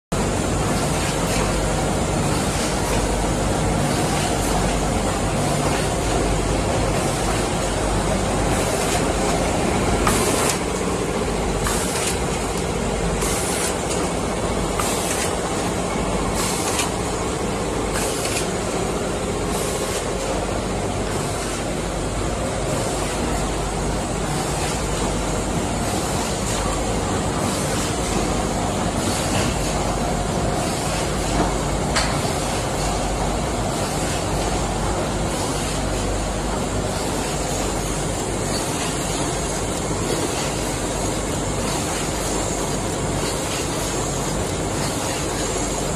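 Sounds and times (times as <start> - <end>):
machine mechanical clatter: 0.2 - 21.7, 22.6 - 45.9.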